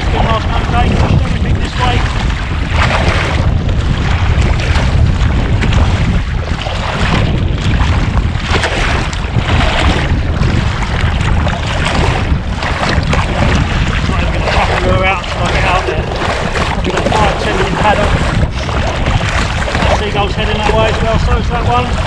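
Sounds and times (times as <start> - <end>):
paddle splashing in water: 0.0 - 22.0
wind rumble on microphone: 0.0 - 22.0.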